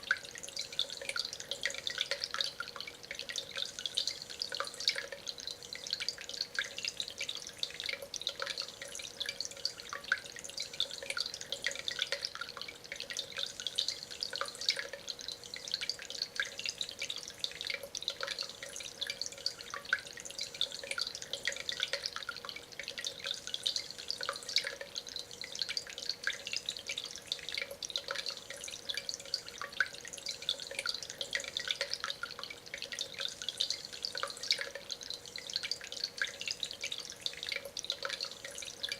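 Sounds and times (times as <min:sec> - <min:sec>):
faint steady hum: 0:00.0 - 0:38.9
water trickling over stone: 0:00.0 - 0:38.9.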